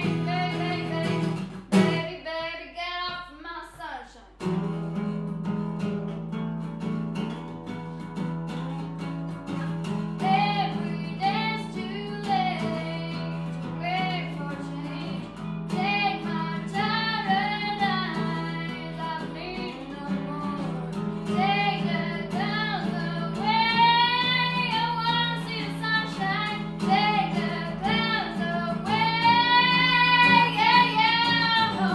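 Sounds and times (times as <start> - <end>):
girl singing pop song: 0.0 - 4.5, 8.7 - 31.9.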